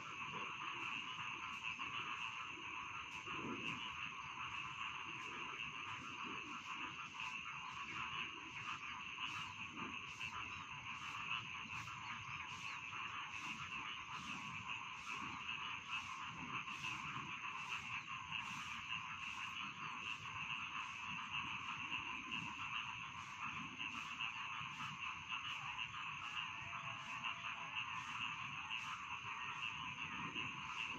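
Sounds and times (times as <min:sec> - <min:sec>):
frogs croaking chorus: 0:00.0 - 0:30.9.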